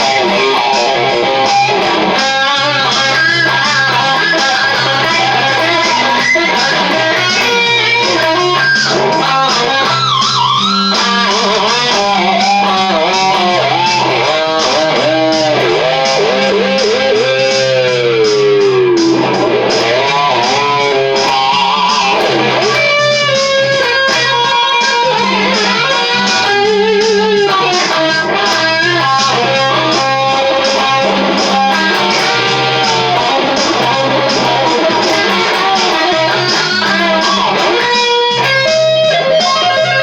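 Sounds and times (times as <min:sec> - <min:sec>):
bass and drums backing: 0:00.0 - 0:40.0
electric guitar solo: 0:00.0 - 0:40.0.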